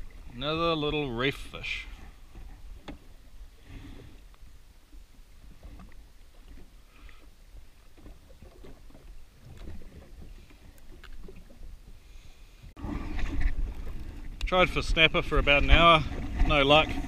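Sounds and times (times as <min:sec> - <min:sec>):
water lapping against hull: 0:00.0 - 0:17.0.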